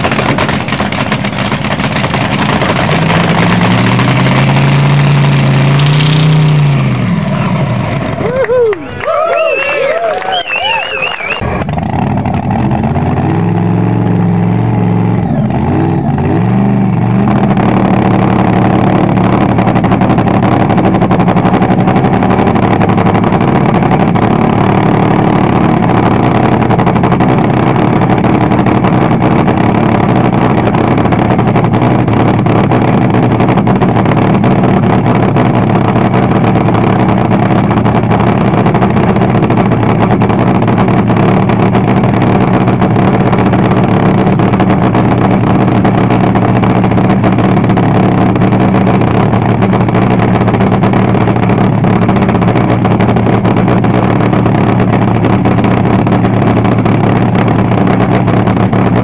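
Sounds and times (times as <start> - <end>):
dragster engine idling roughly: 0.0 - 8.3, 11.4 - 59.0.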